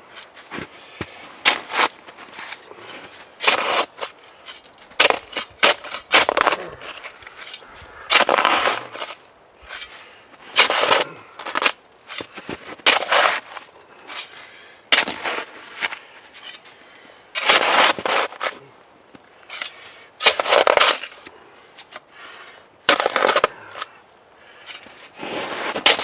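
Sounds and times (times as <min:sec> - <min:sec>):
shovel crunching into packed snow: 0:00.0 - 0:16.8, 0:17.4 - 0:18.7, 0:19.5 - 0:22.0, 0:22.9 - 0:23.9, 0:24.6 - 0:26.0.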